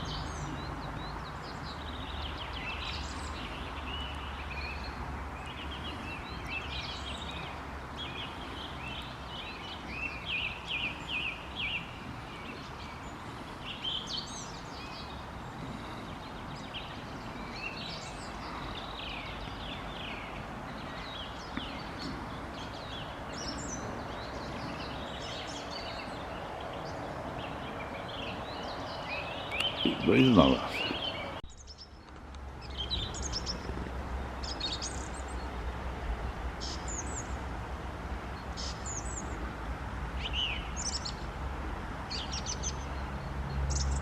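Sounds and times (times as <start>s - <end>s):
songbirds chirping and trilling: 0.0s - 44.0s.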